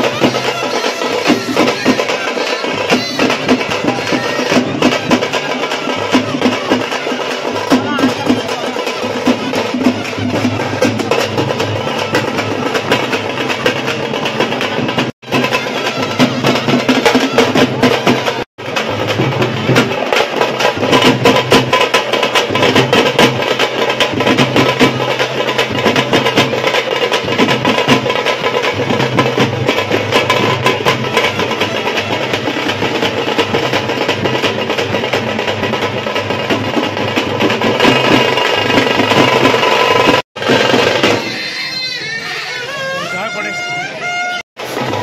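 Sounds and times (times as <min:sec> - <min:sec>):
barrel drums beating fast: 0:00.0 - 0:41.6, 0:44.6 - 0:45.0.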